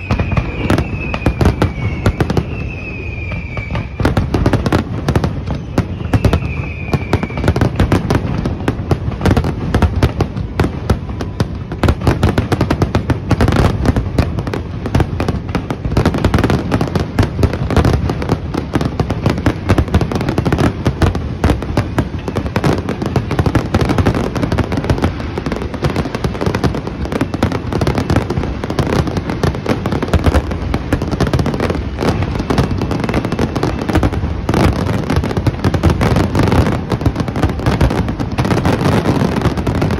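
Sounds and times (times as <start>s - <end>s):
falling firework whistle: 0.0s - 39.9s
firework shell bursts and crackle: 0.0s - 39.9s.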